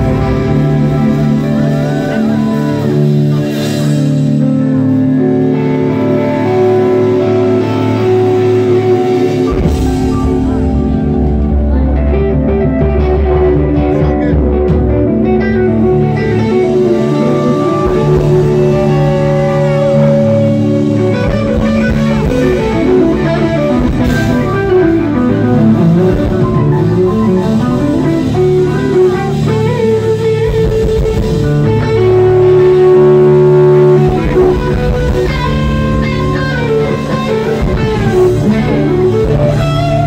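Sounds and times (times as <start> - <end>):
electric guitar lead: 0.0 - 40.0
rock band playing live: 0.0 - 40.0.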